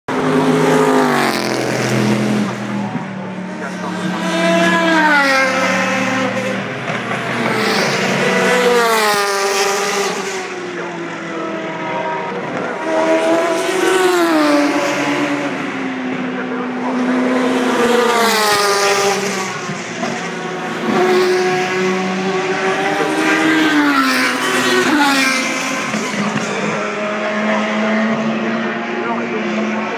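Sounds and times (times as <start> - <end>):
race cars passing: 0.1 - 29.9.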